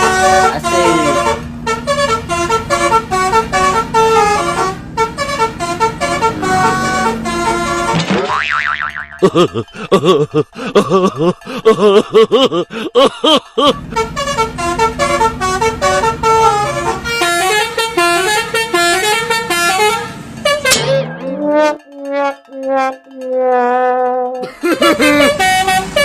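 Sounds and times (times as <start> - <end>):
multi-tone bus horn melody: 0.0 - 8.5, 13.6 - 26.0.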